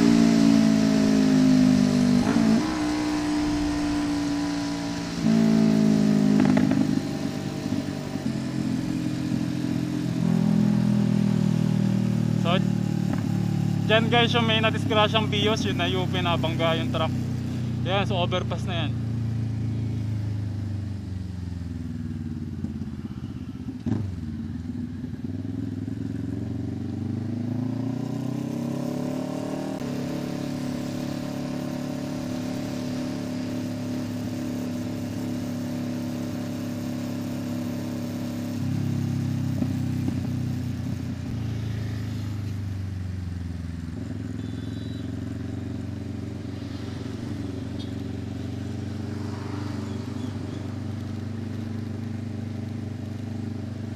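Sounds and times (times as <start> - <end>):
motorcycle engine riding: 0.0 - 53.9.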